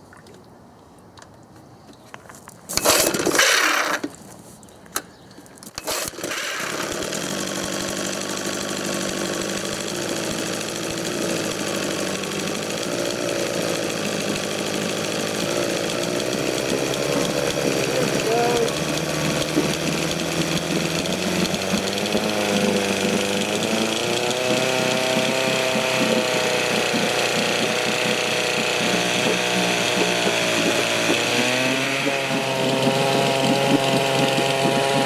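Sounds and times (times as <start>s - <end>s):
outboard motor running: 5.8s - 35.0s.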